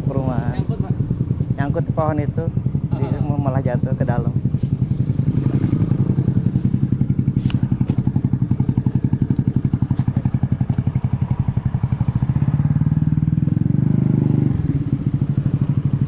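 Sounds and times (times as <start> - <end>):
motor scooter engine idling: 0.0 - 16.0.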